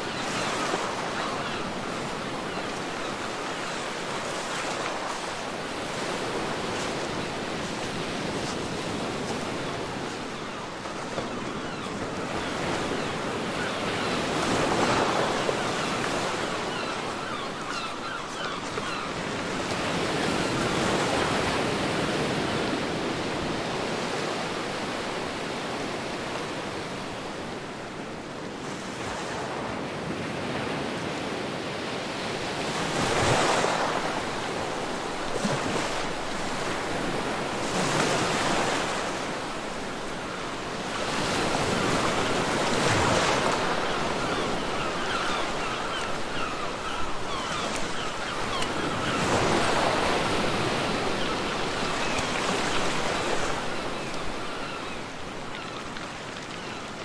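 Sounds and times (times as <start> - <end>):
ocean waves breaking on beach: 0.0 - 57.0
wind: 0.0 - 57.0.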